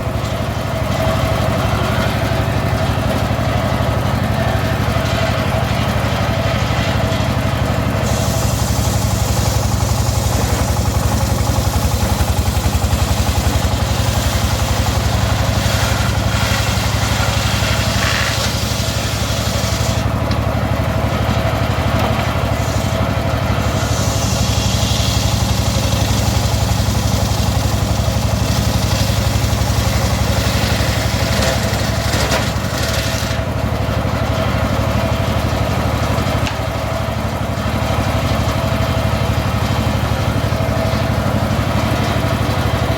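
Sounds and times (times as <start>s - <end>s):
engine-driven circular saw sawing logs: 0.0s - 42.9s.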